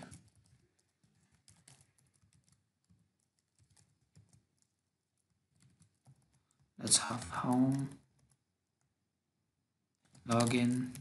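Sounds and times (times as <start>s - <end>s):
faint keyboard typing: 0.0s - 9.0s, 9.9s - 11.0s.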